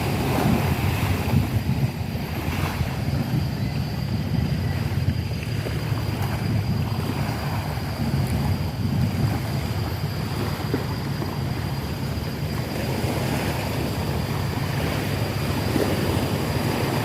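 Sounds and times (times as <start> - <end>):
wind buffeting microphone: 0.0 - 17.0
faint steady high tone: 2.1 - 17.0.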